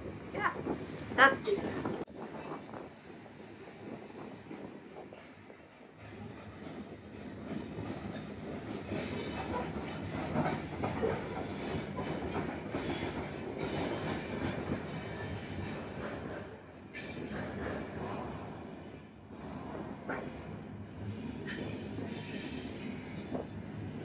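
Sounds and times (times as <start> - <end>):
train wagons rolling on rails: 0.0 - 24.0.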